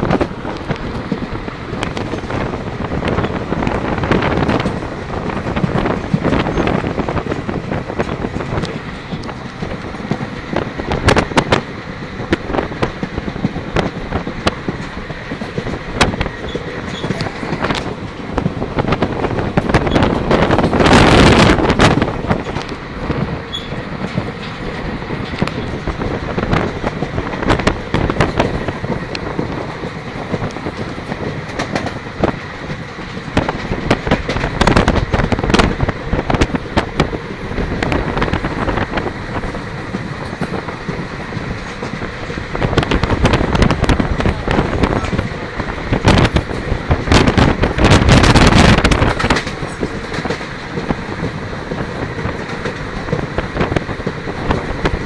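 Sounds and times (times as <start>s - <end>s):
train rumble: 0.0s - 55.0s
wheels clacking over rails: 0.0s - 55.0s
wind rushing over microphone: 0.0s - 55.0s.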